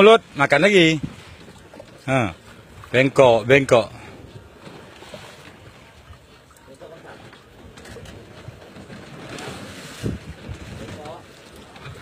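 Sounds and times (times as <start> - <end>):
faint wind and sea noise: 0.0 - 12.0.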